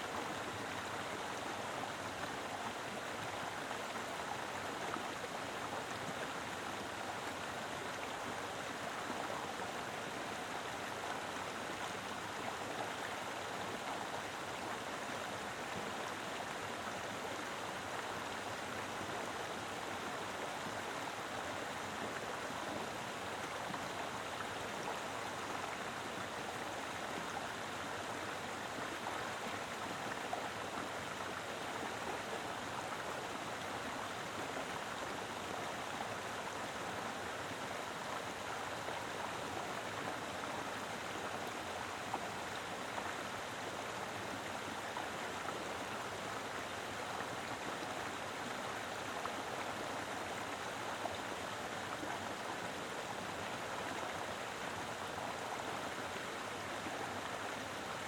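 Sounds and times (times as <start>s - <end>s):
river flowing over rocks: 0.0s - 58.0s.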